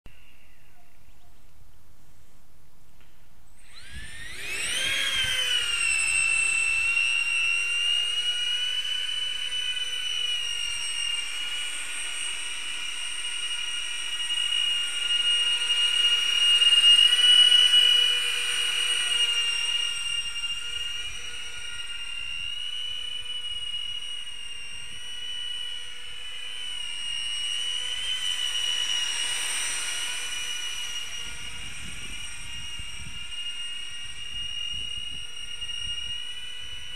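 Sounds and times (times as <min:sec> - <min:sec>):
drone fans whining: 0:00.1 - 0:36.9.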